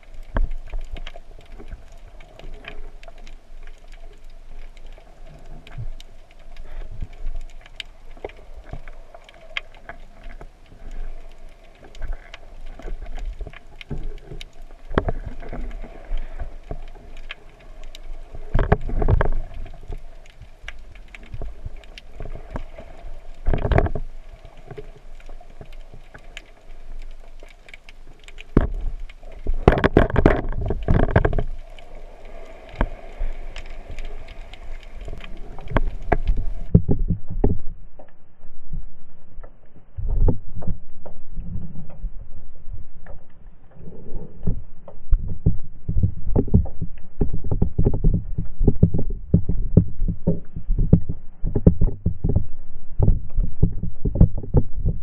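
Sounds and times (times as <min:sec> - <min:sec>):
small clicks and crackles: 0:00.0 - 0:55.0.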